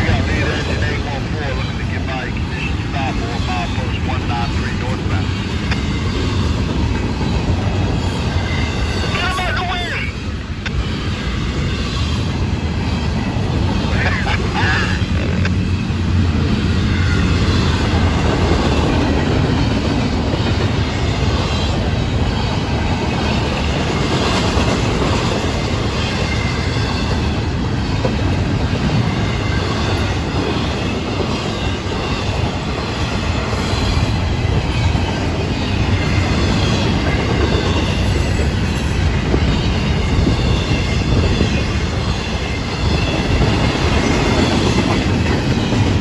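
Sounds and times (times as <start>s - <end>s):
freight train wheels on rails: 0.0s - 46.0s.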